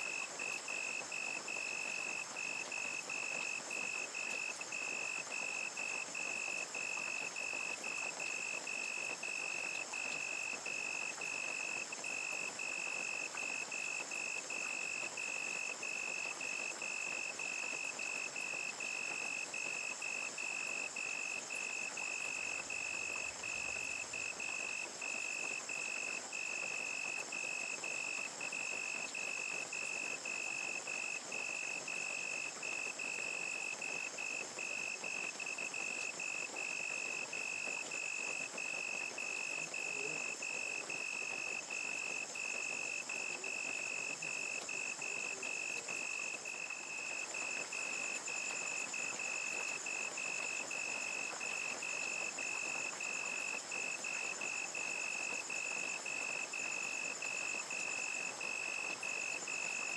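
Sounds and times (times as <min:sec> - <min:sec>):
crickets chirping: 0:00.0 - 0:59.9
insect trills: 0:00.0 - 0:59.9
rain hissing: 0:00.0 - 0:59.9.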